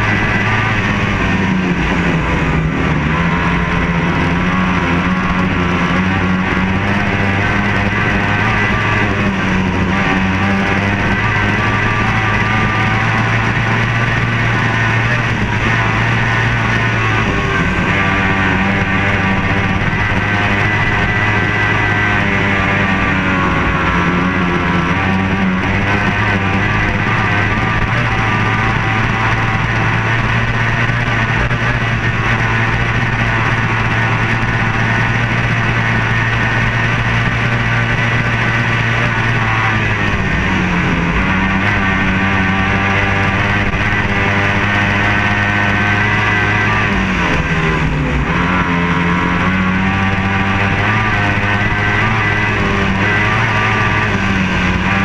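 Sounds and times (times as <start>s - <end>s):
rock music with electric guitar: 0.0s - 55.0s.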